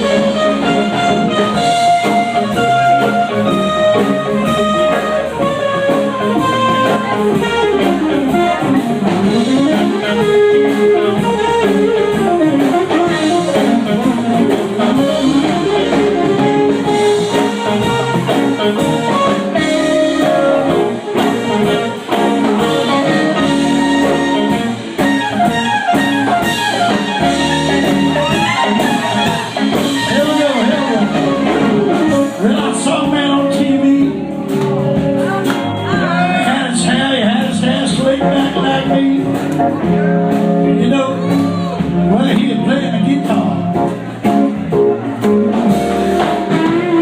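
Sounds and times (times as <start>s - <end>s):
live blues-rock band playing: 0.0s - 47.0s.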